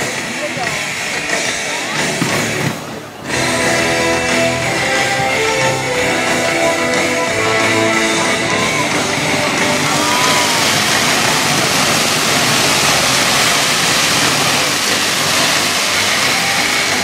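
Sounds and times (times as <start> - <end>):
fireworks crackling: 0.0 - 17.0
music over sound system: 0.0 - 17.0.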